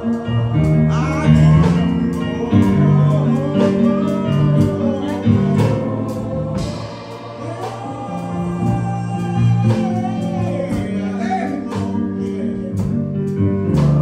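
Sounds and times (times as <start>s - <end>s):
instrumental accompaniment with beat: 0.0s - 14.0s
man singing into microphone: 0.0s - 14.0s.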